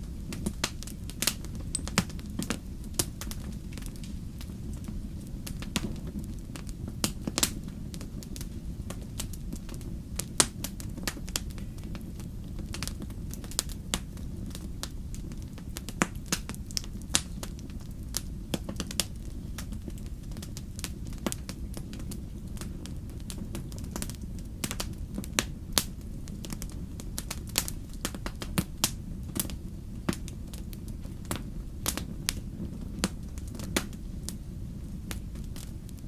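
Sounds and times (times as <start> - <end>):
campfire crackling: 0.0 - 36.0
fire rumbling: 0.0 - 36.0.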